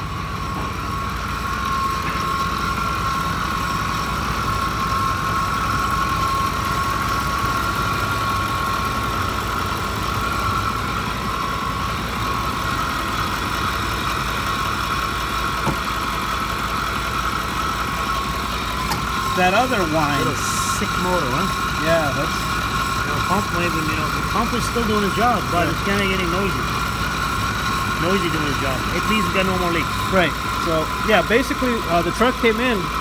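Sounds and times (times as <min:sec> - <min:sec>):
engine idling: 0:00.0 - 0:33.0
high-pitched whine: 0:00.0 - 0:33.0.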